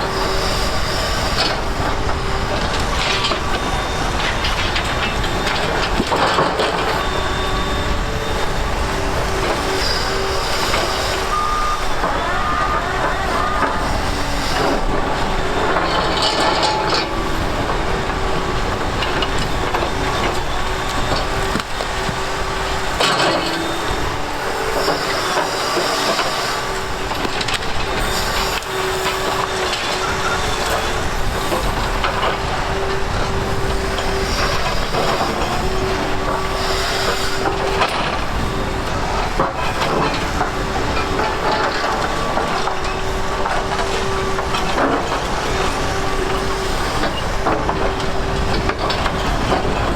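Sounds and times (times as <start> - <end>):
excavator engines with hydraulic whine: 0.0 - 49.9.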